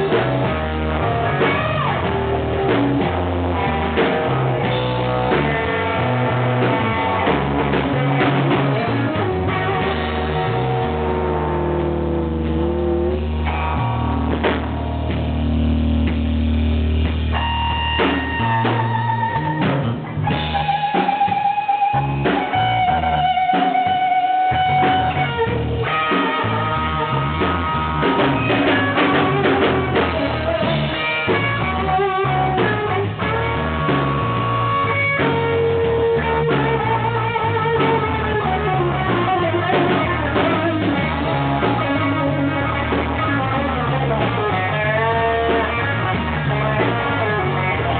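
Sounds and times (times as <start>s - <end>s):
bass guitar: 0.0s - 47.9s
drum kit: 0.0s - 47.9s
electric guitar bent notes: 0.0s - 47.9s.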